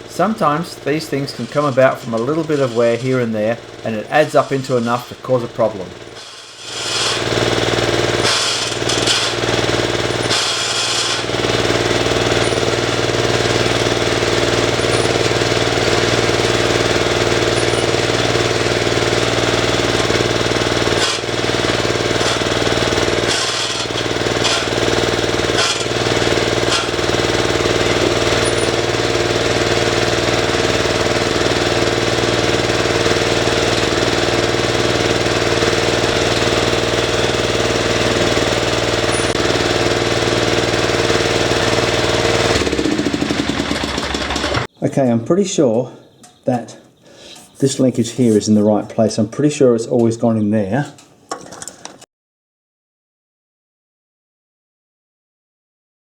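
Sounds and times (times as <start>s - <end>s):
lawn mower engine running: 0.0s - 52.0s.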